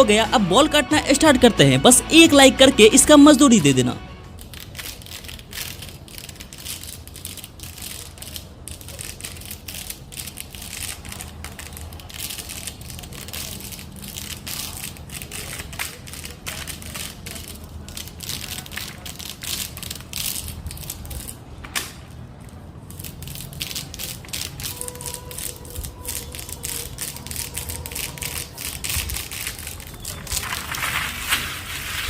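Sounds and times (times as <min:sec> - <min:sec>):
rubber bands snapping: 0:04.4 - 0:30.6.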